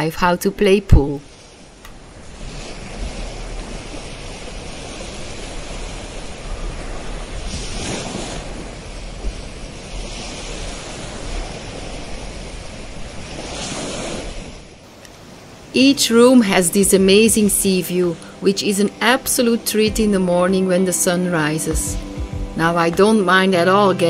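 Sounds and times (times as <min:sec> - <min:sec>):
wind rumbling on microphone: 0:00.0 - 0:20.7
sea surf washing ashore: 0:00.0 - 0:24.0.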